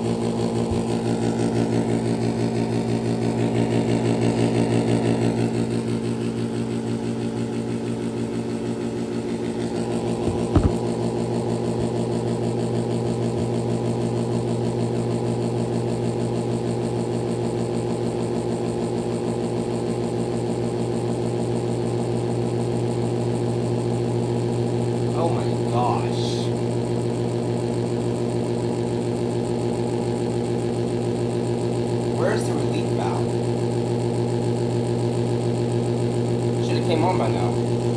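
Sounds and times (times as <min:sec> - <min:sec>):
heat pump humming: 0:00.0 - 0:37.9.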